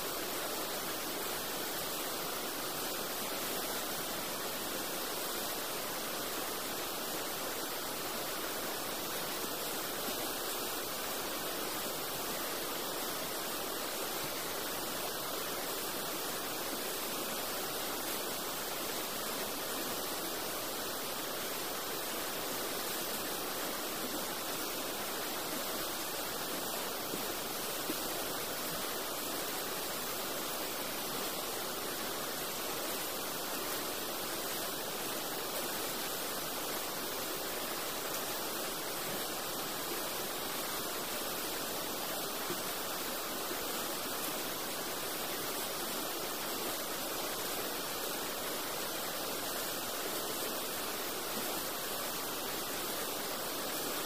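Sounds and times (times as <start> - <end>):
fast-flowing river rushing: 0.0 - 54.0.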